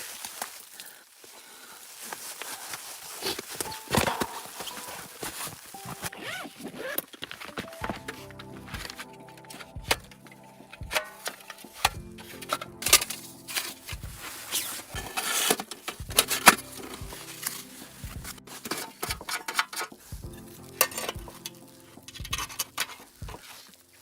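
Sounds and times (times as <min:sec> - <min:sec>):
things being handled: 0:01.8 - 0:24.0
soft background music: 0:03.3 - 0:24.0.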